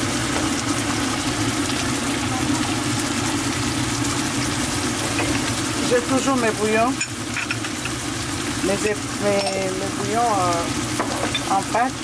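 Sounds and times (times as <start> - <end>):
coffee maker humming: 0.0 - 12.0.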